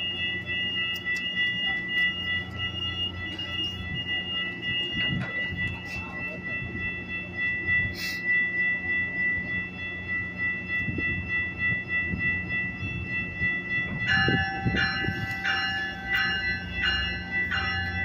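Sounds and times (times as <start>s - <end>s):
steady high-pitched tone: 0.0s - 18.0s
train low rumble: 0.0s - 18.0s
train warning bell ringing: 0.0s - 18.0s.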